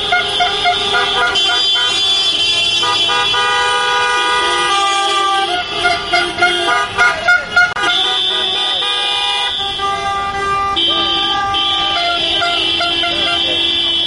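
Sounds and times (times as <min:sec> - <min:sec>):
car horns honking: 0:00.0 - 0:14.0.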